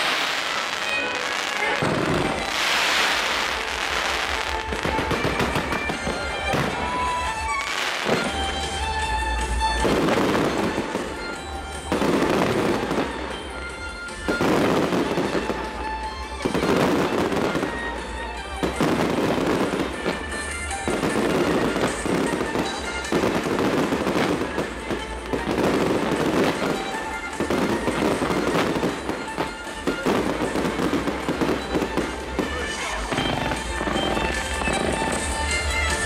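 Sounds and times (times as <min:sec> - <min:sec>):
music playing: 0:00.0 - 0:36.0.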